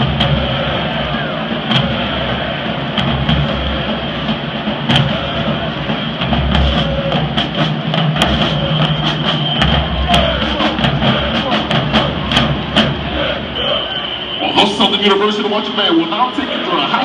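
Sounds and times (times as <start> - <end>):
drum and cymbal strikes: 0.0 - 14.2
crowd noise: 0.0 - 17.0
marching band playing: 0.0 - 17.0.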